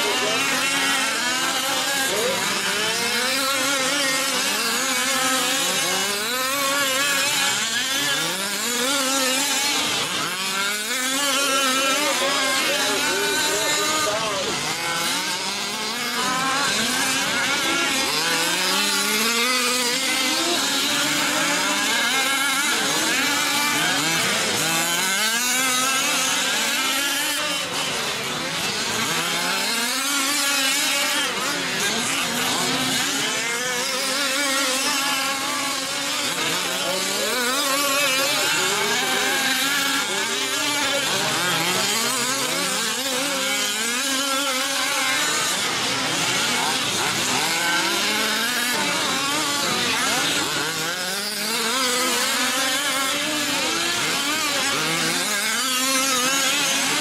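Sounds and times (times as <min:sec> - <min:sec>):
small two-stroke engines racing: 0:00.0 - 0:57.0.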